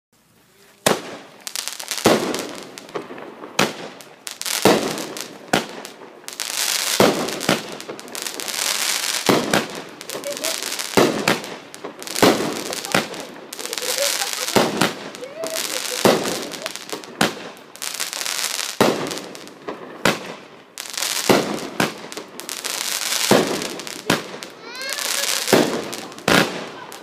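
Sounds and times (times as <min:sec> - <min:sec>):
fireworks crackling: 0:00.2 - 0:27.0
fireworks reports: 0:00.2 - 0:27.0.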